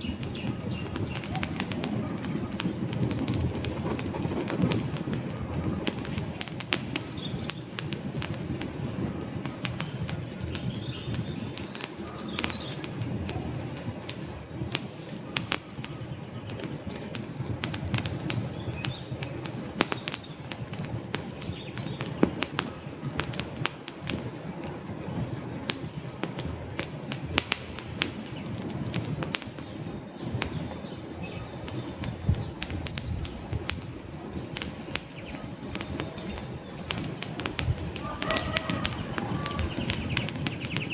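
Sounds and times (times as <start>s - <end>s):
campfire crackling and popping: 0.0s - 40.9s
low rush of flame: 0.0s - 40.9s.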